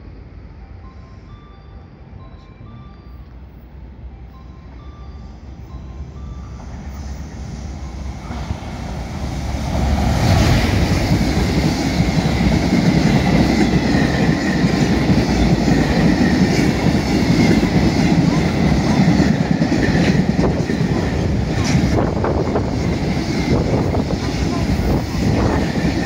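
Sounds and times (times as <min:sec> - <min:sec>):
electric locomotive passing: 0:00.0 - 0:26.0.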